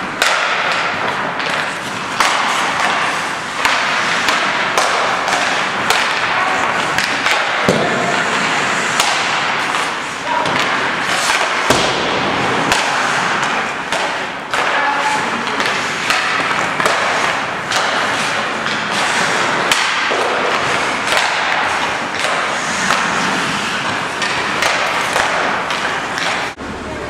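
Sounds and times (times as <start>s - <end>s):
pucks striking boards: 0.0s - 26.6s
skate blades scraping ice: 0.0s - 26.6s
sticks hitting pucks: 0.0s - 26.6s.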